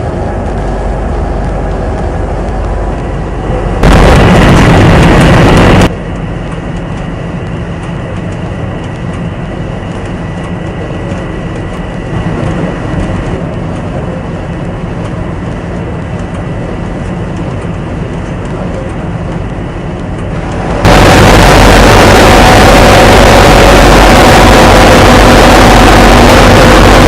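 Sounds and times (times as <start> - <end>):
constant noisy rush: 0.0 - 27.0
ship engine droning: 0.0 - 27.0.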